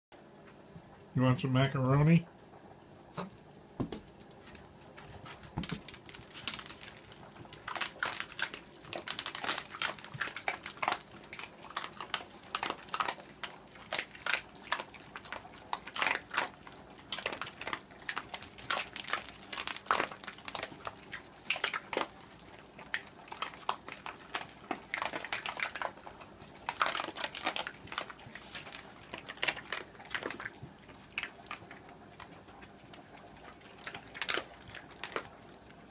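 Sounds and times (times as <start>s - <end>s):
dogs crunching food: 3.2s - 35.9s.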